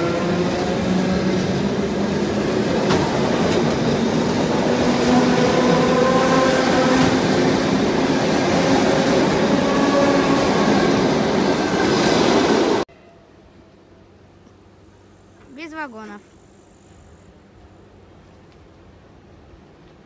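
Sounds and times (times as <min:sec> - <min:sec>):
electric train running past: 0:00.0 - 0:20.0.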